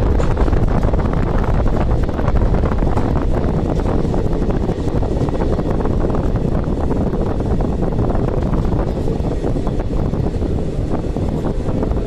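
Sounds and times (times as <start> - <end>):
train heavy rumble: 0.0 - 12.0
wind buffeting microphone: 0.0 - 12.0.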